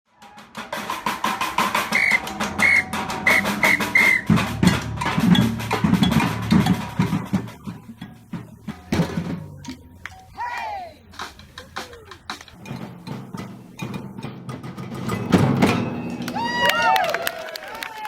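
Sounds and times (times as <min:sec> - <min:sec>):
rapid drum strokes: 0:00.1 - 0:16.3
deeper drums: 0:00.1 - 0:17.0.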